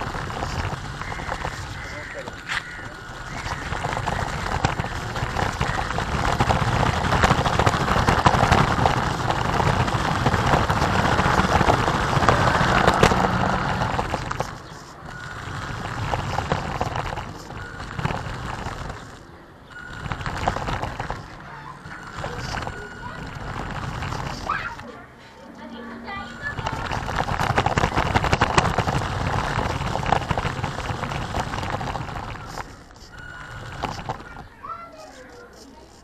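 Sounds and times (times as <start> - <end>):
rc car motor and tyres rushing: 0.0 - 36.0
wind: 0.0 - 36.0.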